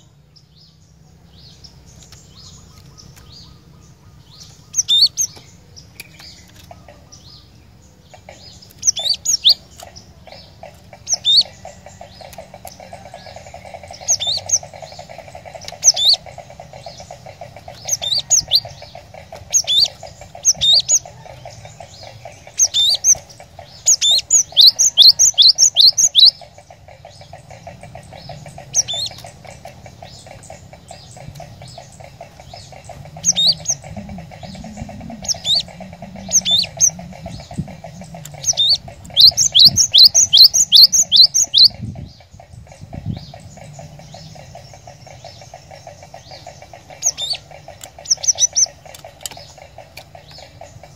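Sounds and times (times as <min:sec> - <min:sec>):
bird chirping: 0:00.0 - 0:50.9
steady buzzing drone: 0:00.0 - 0:50.9.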